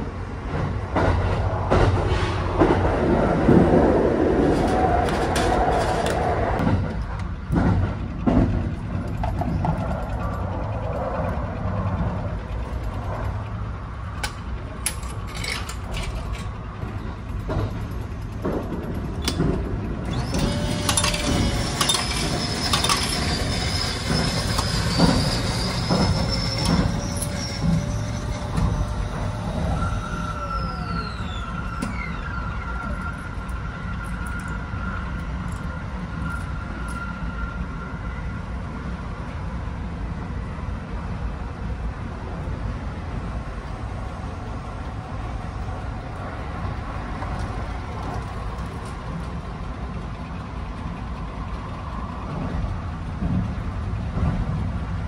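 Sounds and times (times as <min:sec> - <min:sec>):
machine whirring with whining tones: 0:00.0 - 0:55.0
train rumbling: 0:00.0 - 0:55.0.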